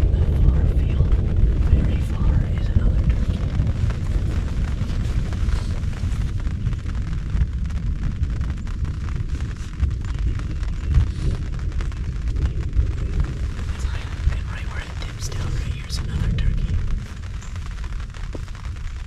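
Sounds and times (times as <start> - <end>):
deep thunder rumble: 0.0 - 19.0
heavy rain on fabric roof: 0.0 - 19.0.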